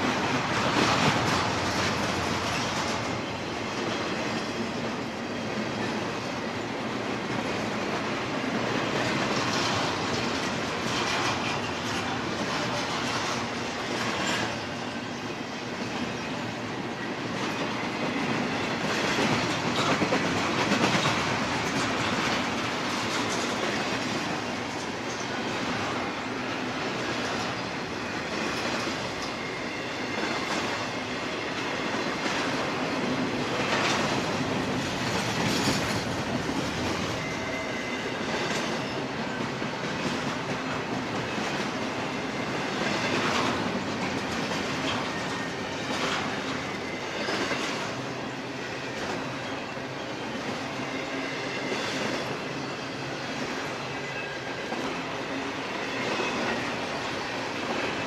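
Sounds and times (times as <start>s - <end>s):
rail clacks: 0.0s - 58.0s
train wheels rumbling on rail: 0.0s - 58.0s.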